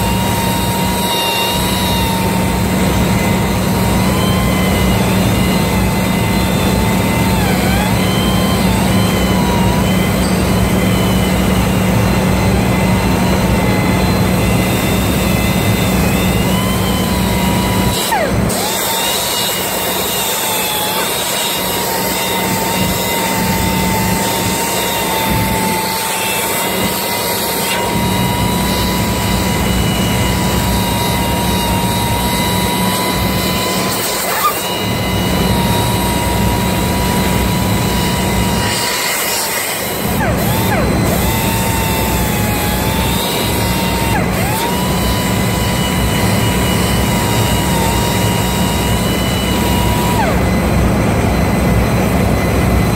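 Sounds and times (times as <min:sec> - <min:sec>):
low machinery hum: 0:00.0 - 0:52.9
power tool motor whine: 0:00.0 - 0:52.9.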